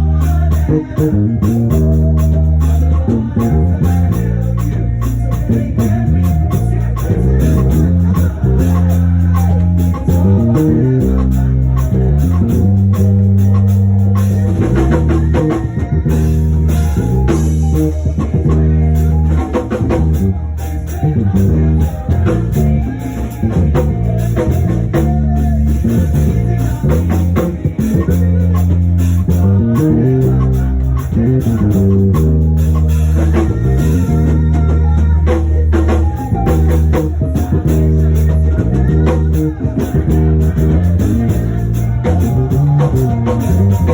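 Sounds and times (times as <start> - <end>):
bass guitar notes: 0.0 - 43.9
drum kit beat: 0.0 - 43.9
electric guitar: 0.0 - 43.9.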